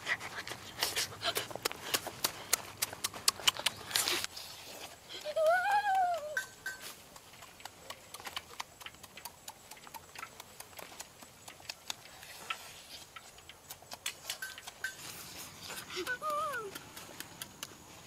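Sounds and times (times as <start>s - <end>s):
wet chewing and smacking: 0.1s - 18.0s.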